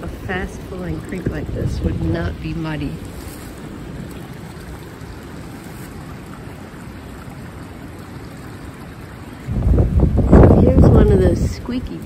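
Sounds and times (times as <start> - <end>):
creek rushing: 0.0 - 12.0
wind rumbling on microphone: 0.0 - 12.0.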